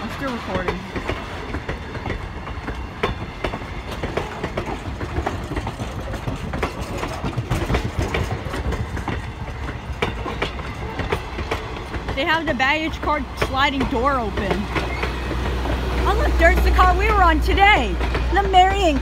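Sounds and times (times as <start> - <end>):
train coaches rumbling past: 0.0 - 19.0
wheels clacking over rail joints: 0.0 - 19.0.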